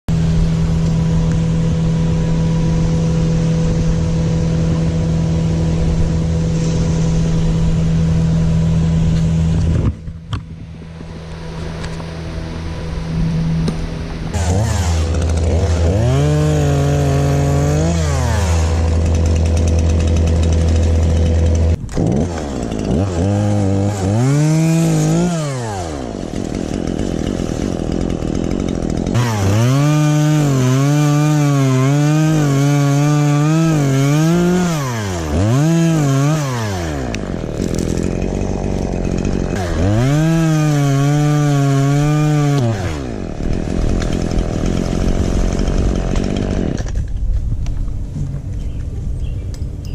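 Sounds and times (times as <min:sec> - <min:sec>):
chainsaw cutting and revving: 0:00.1 - 0:10.0, 0:10.8 - 0:47.2.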